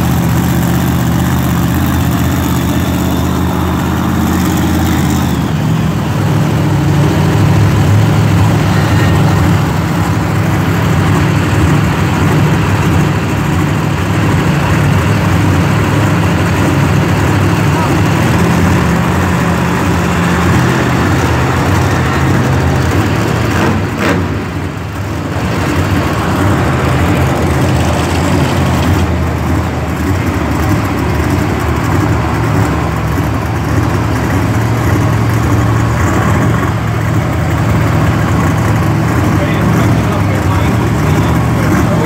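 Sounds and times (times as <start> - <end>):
truck engine idling loud: 0.0 - 42.0.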